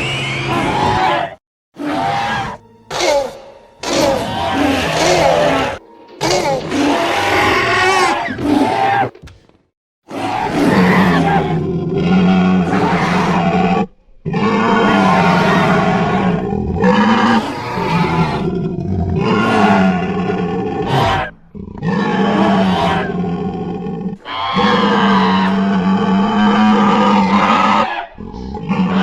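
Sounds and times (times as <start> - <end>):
monster roars and growls: 0.0 - 9.1, 10.1 - 29.0.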